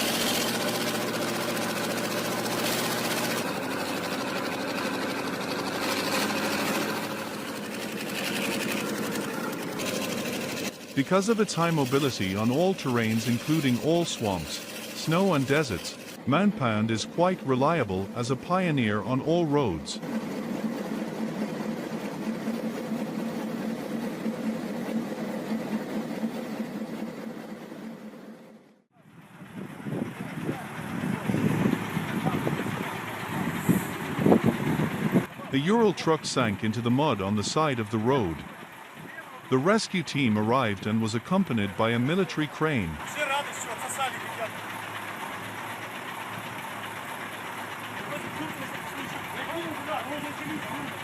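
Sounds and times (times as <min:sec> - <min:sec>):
fast mechanical clatter: 0:00.0 - 0:16.2, 0:18.0 - 0:51.0
tracked vehicle engines running: 0:00.0 - 0:51.0.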